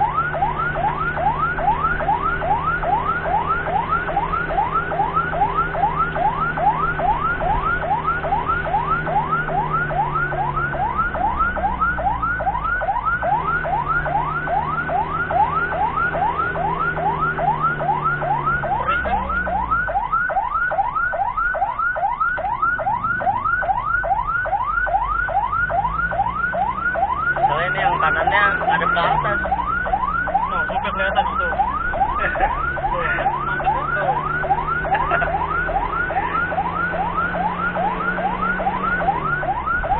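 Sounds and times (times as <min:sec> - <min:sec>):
vehicle engine revving: 0:00.0 - 0:20.3, 0:22.0 - 0:39.9
ambulance siren yelping: 0:00.0 - 0:39.9.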